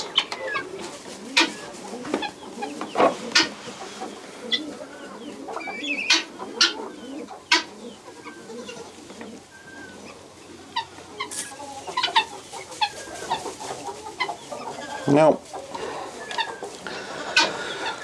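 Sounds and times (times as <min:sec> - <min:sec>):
guineafowl calling: 0:00.0 - 0:18.0.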